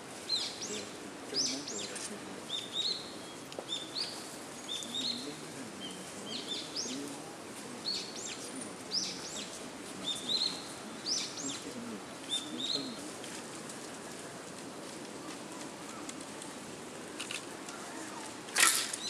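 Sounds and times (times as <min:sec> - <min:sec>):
small birds chirping: 0:00.2 - 0:19.0.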